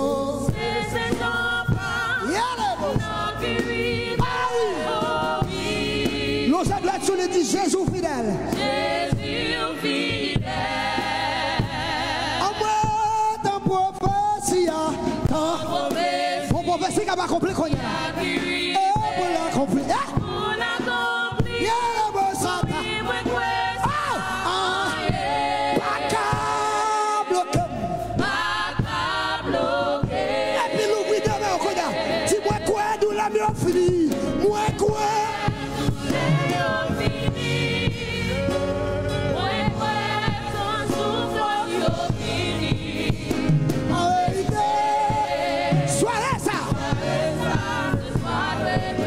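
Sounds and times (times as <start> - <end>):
gospel worship singing: 0.0 - 49.0.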